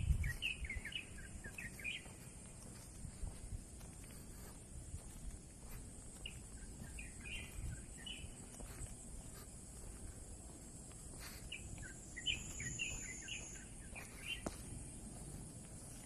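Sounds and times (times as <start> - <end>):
outdoor background noise: 0.0 - 16.0
songbird chirping: 0.0 - 16.0.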